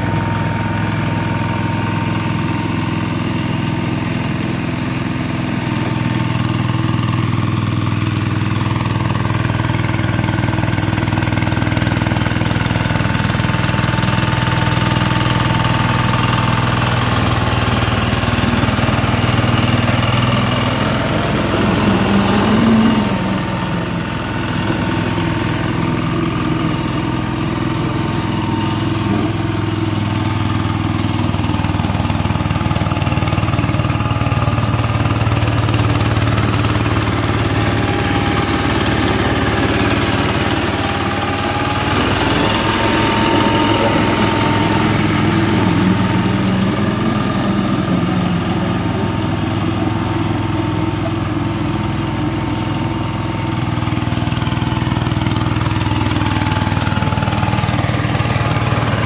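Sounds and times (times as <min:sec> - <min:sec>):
road roller engine running: 0:00.0 - 0:59.0.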